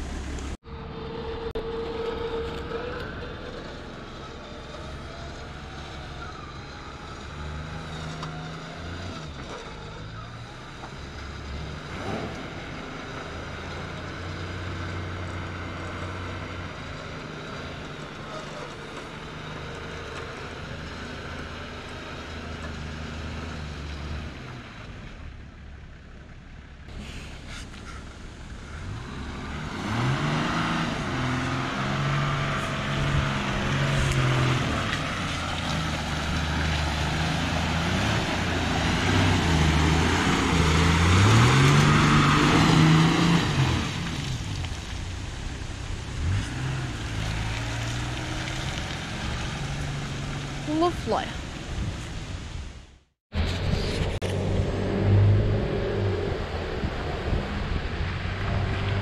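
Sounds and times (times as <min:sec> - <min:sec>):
truck engine driving through mud: 0:00.0 - 0:59.0.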